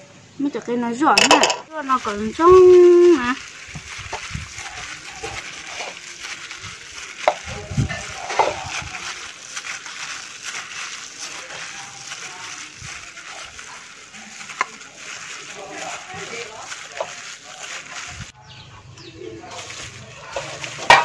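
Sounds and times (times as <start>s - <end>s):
plastic bag crinkling: 1.1s - 18.4s, 19.3s - 21.0s.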